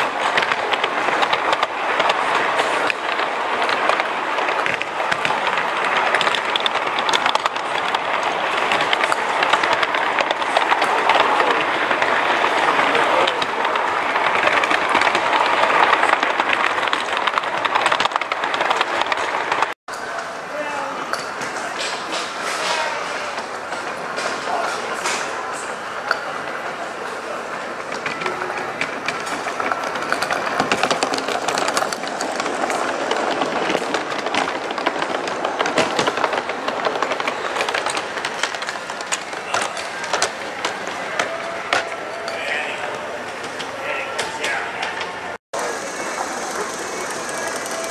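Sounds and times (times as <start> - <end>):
wheels clicking over rails: 0.0 - 20.4, 21.1 - 47.9
model train running noise: 0.0 - 47.9.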